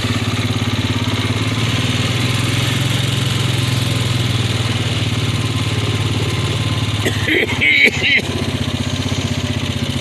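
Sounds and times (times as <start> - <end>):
small engine idling: 0.0 - 10.0.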